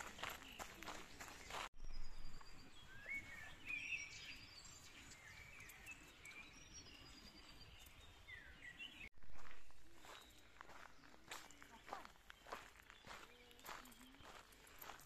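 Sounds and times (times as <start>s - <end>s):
birds chirping and whistling: 0.0s - 15.0s.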